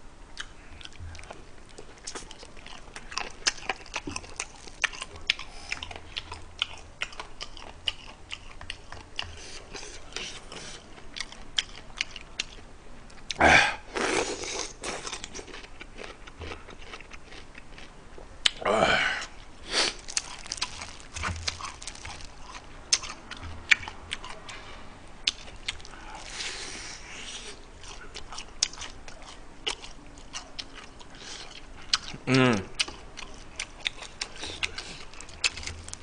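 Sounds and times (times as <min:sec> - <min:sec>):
person chewing crunchy food: 0:00.4 - 0:18.6, 0:19.2 - 0:36.0.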